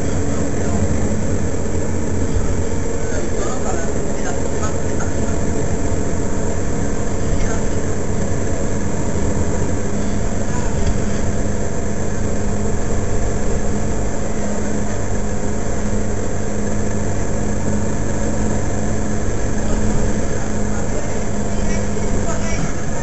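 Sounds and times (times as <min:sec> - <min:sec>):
bus engine idling: 0:00.0 - 0:23.0.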